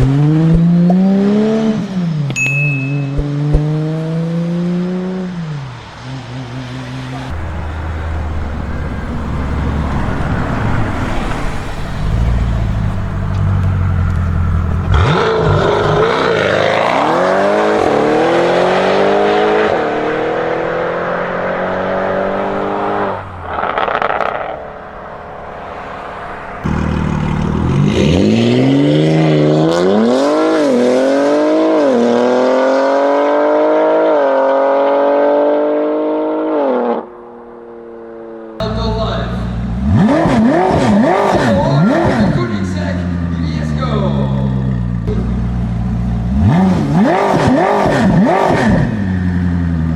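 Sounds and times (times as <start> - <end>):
car engines accelerating hard: 0.0 - 2.4, 3.0 - 49.9.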